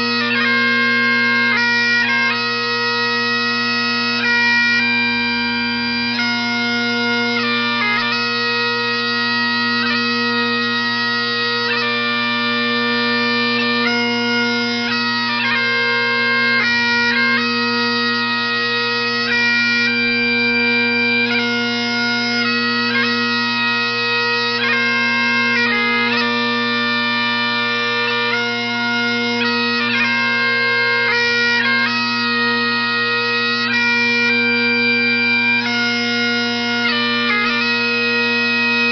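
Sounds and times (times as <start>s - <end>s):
bagpipes playing a melody: 0.0s - 38.9s.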